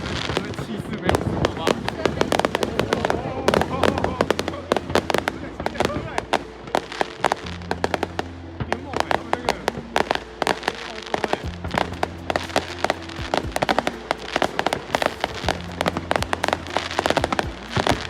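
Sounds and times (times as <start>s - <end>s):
background music: 0.0s - 18.0s
fireworks cracking and popping: 0.0s - 18.0s.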